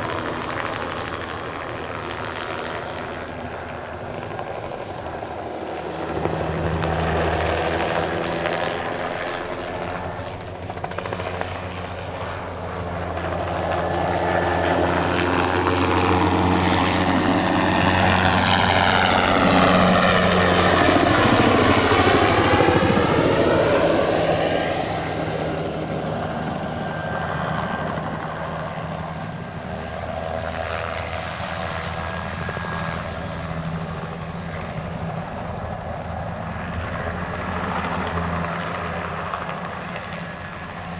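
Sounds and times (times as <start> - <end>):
helicopter passing low: 0.0 - 40.9.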